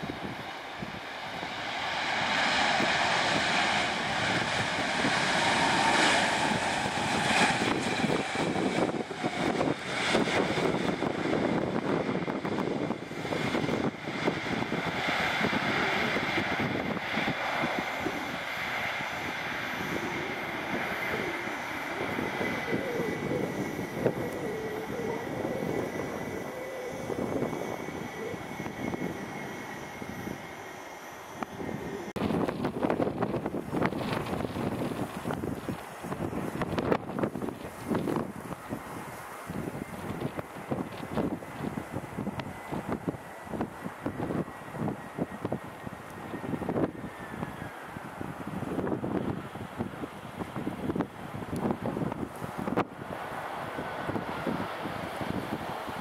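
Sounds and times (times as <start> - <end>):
high fan whine: 0.0 - 56.0
jet airliner landing: 0.0 - 56.0.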